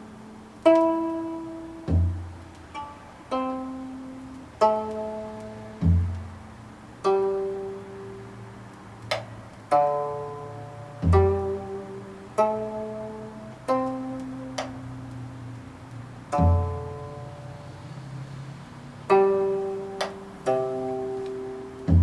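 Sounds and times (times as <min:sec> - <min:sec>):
zither plucked notes: 0:00.0 - 0:22.0.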